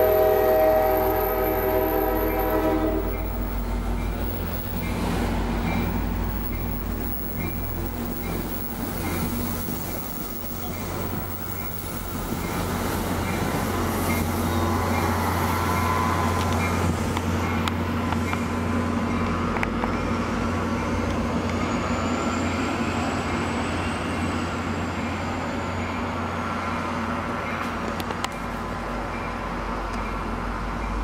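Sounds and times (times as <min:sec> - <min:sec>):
passenger train rolling past: 0:00.0 - 0:31.0.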